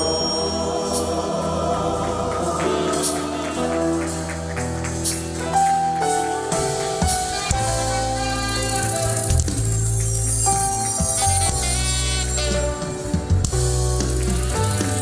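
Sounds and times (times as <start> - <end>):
gospel worship music: 0.0 - 15.0.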